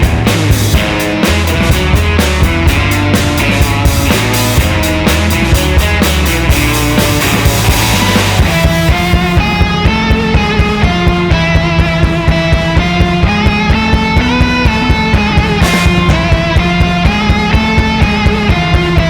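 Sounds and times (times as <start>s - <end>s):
bass line: 0.0s - 19.0s
rock music: 0.0s - 19.0s
steady drum beat: 0.0s - 19.0s.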